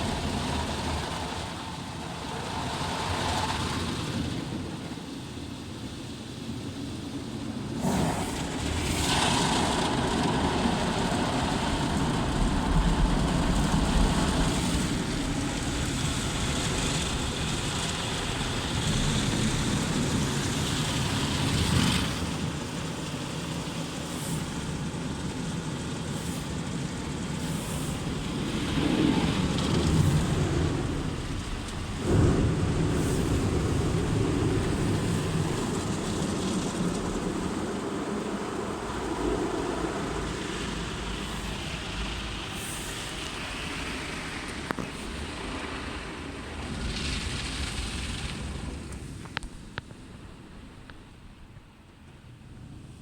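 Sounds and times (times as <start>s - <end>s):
car wash spray and machinery: 0.0s - 53.0s.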